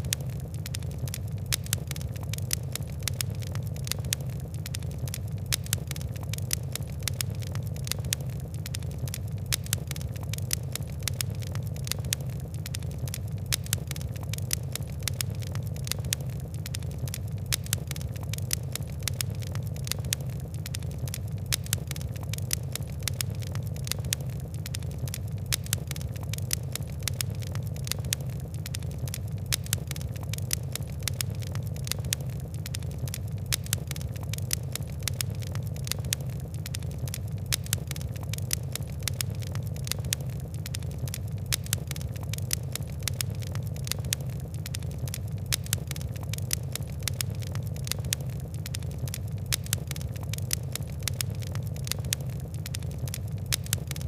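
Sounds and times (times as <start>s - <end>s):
fire crackling: 0.0s - 54.0s
low rumble of flames: 0.0s - 54.0s.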